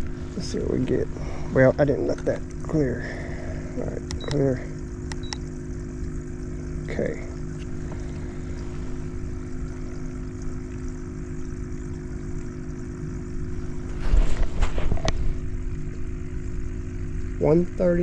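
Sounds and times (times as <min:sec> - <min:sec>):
steady motor hum: 0:00.0 - 0:18.0.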